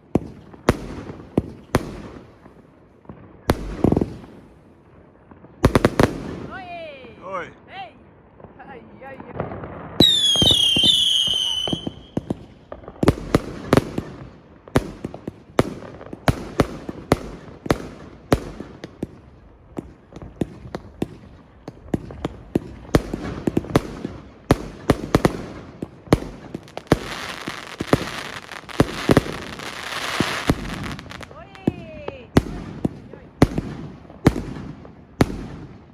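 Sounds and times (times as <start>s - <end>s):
fireworks bangs and cracks: 0.0s - 7.4s, 8.3s - 35.9s
hissing crackle of fireworks: 0.0s - 35.9s.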